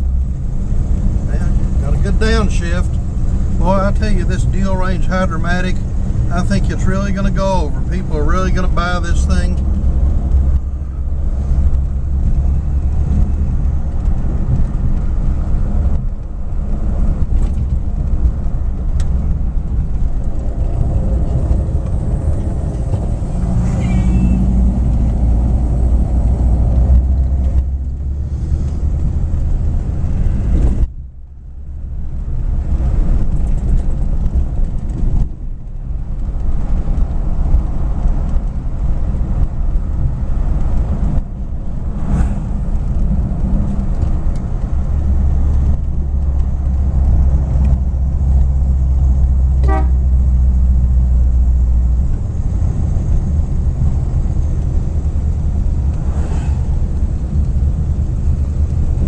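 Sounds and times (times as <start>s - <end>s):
car engine droning in cabin: 0.0s - 59.0s
road noise: 0.0s - 59.0s.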